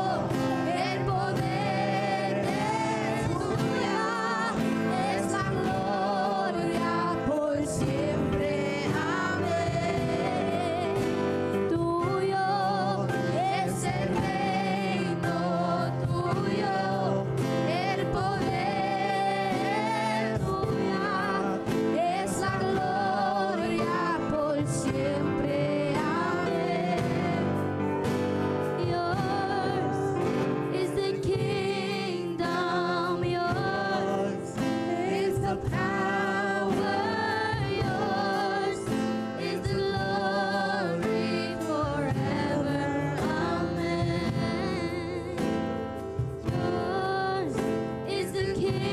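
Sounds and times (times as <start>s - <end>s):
instrumental accompaniment: 0.0s - 48.9s
voices singing held notes: 0.0s - 48.9s.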